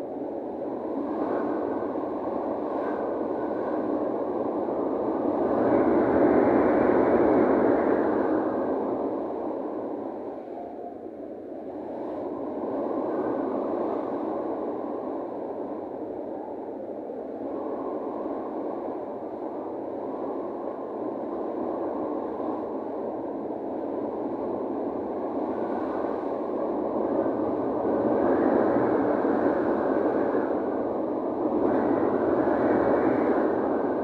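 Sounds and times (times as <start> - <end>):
wind blowing over the sea: 0.0 - 34.0.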